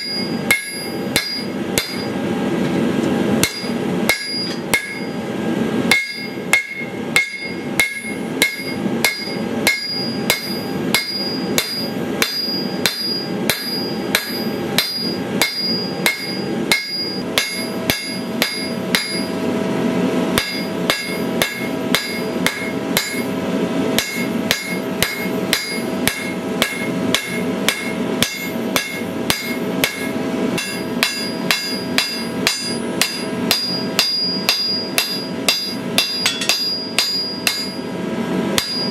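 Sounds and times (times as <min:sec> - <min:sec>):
hammer striking steel on anvil: 0:00.0 - 0:02.2, 0:03.4 - 0:05.2, 0:05.9 - 0:19.4, 0:20.4 - 0:23.3, 0:24.0 - 0:37.9, 0:38.5 - 0:38.9.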